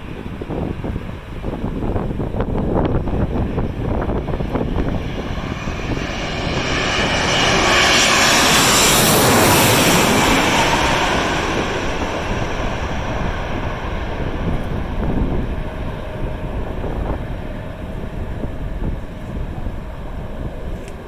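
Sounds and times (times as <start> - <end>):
airliner engine noise: 0.0 - 21.0
wind buffeting microphone: 0.0 - 21.0.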